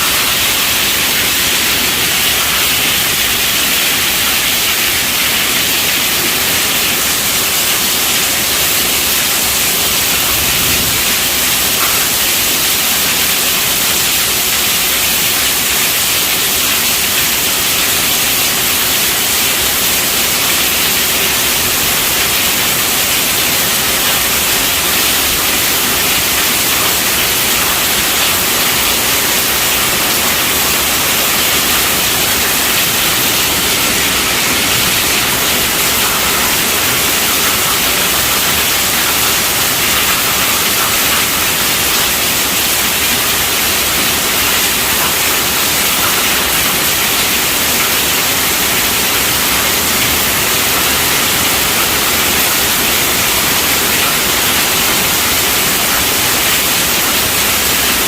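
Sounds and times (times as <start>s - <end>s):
continuous rainfall hiss: 0.0s - 58.0s.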